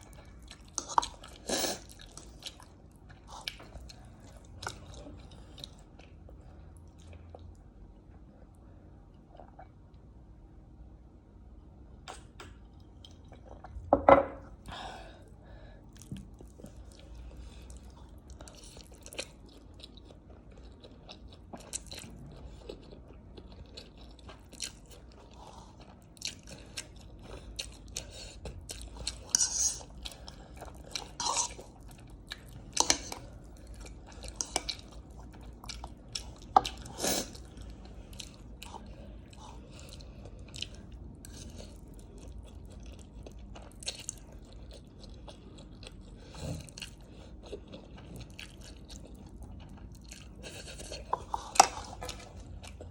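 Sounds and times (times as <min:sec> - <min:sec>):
close chewing with crunches: 0:00.0 - 0:07.6, 0:15.9 - 0:52.9.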